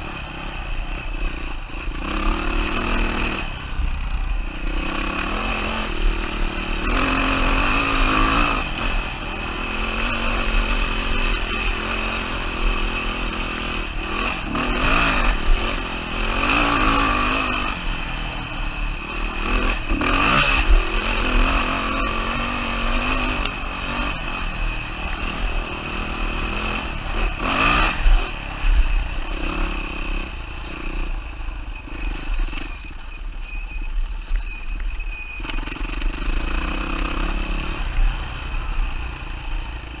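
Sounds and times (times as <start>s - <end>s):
motorcycle engine revving: 0.0s - 33.4s, 35.3s - 40.0s.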